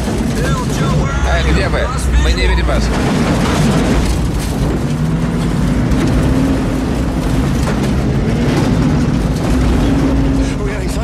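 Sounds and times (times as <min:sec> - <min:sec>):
loud rushing noise: 0:00.0 - 0:11.0
truck engine revving high: 0:00.0 - 0:11.0.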